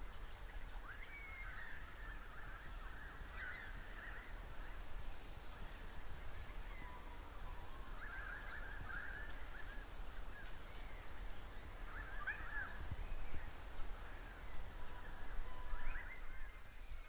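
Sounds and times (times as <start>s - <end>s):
birds chirping and warbling: 0.0s - 17.0s
wind rumble on microphone: 0.0s - 17.0s.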